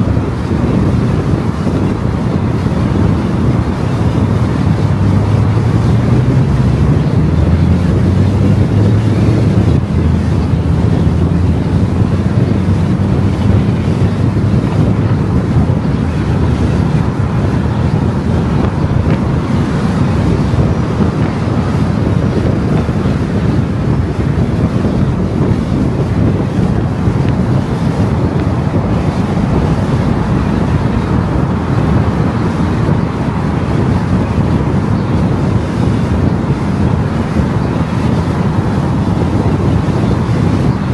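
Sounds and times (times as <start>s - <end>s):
tyre and wind rumble: 0.0s - 40.9s.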